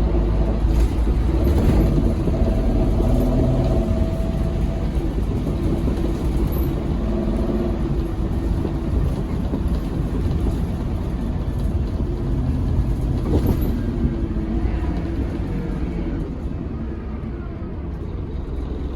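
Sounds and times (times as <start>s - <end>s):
bus diesel engine rumbling: 0.0s - 18.9s.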